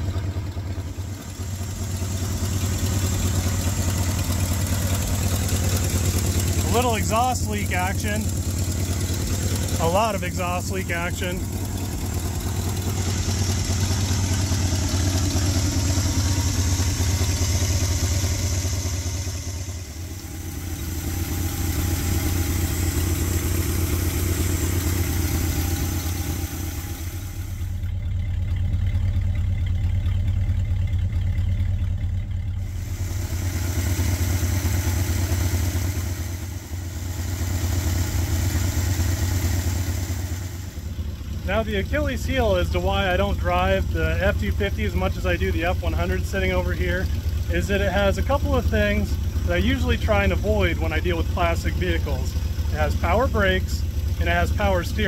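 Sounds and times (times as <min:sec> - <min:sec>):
exhaust leak puffing: 0:00.0 - 0:55.0
truck engine idling: 0:00.0 - 0:55.0.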